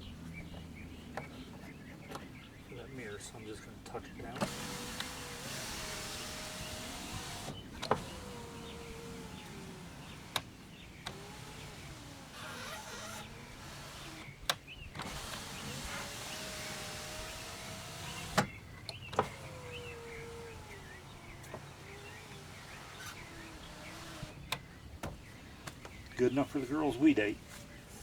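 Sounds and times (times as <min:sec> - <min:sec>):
window motor clunk: 0:00.0 - 0:28.0
power window motor whining: 0:04.0 - 0:28.0.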